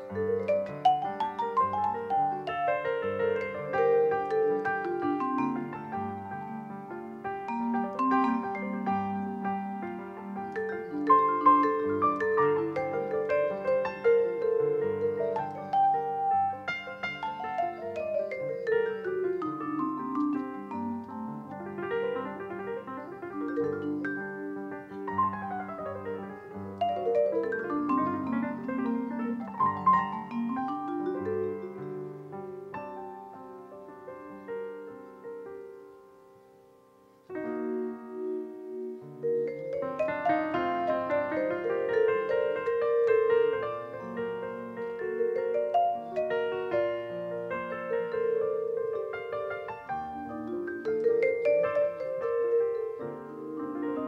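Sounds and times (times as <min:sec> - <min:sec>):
vibraphone: 0:00.0 - 0:06.7, 0:07.3 - 0:22.2, 0:22.8 - 0:33.3, 0:37.6 - 0:54.0
grand piano: 0:00.0 - 0:54.0.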